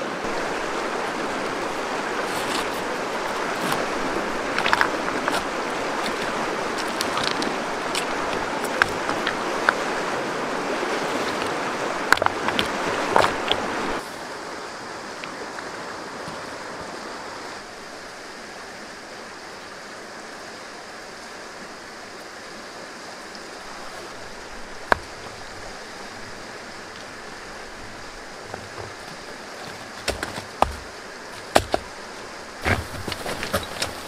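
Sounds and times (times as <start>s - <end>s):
river water running: 0.0s - 34.0s.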